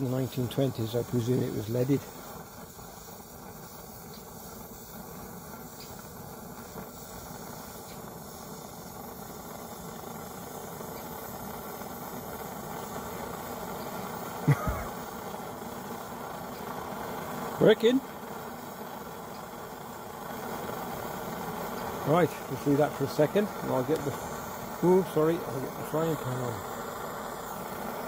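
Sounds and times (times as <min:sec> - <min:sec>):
stove burner hissing: 0:00.0 - 0:28.0.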